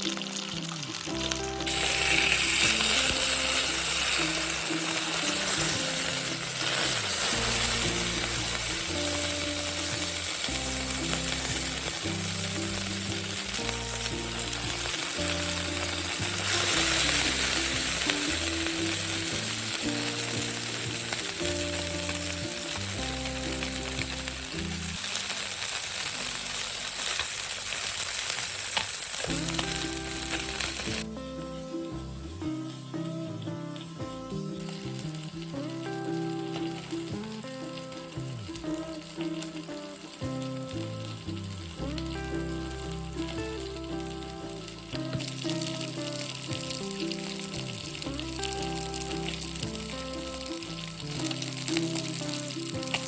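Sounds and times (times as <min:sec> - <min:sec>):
music with plodding bass line: 0:00.0 - 0:27.2, 0:29.2 - 0:53.0
fish sizzling in oil: 0:00.0 - 0:53.0.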